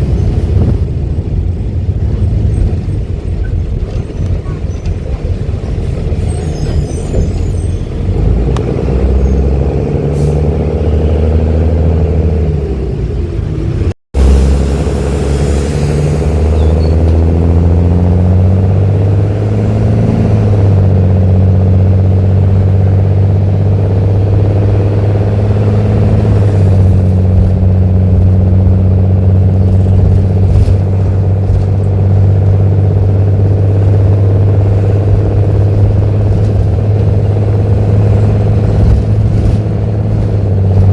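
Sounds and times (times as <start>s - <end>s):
bus diesel engine accelerating: 0.0s - 40.9s.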